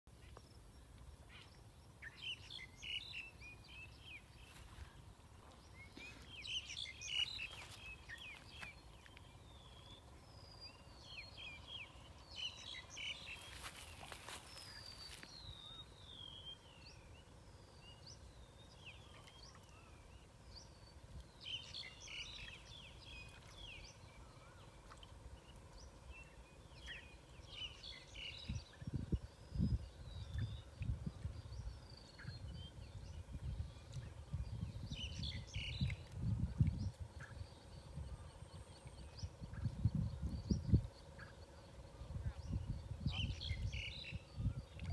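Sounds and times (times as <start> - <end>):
birds chirping: 0.1 - 44.9.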